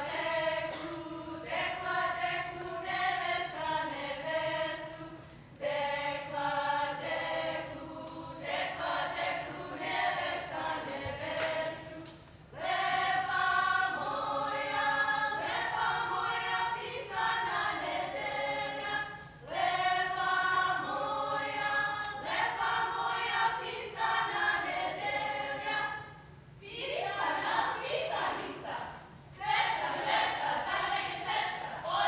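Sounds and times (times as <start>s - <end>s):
women singing folk song: 0.0s - 26.1s, 26.8s - 32.0s.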